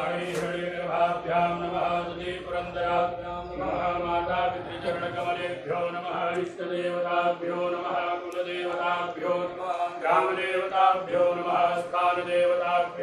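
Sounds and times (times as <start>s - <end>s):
person chanting: 0.0s - 13.0s.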